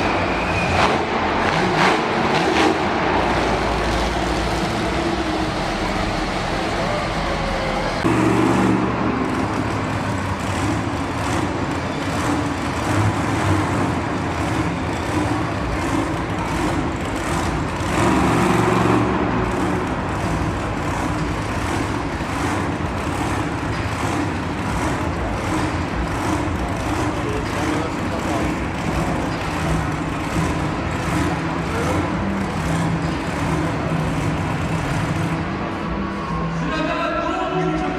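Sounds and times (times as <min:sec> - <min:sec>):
truck engine revving loudly: 0:00.0 - 0:36.8.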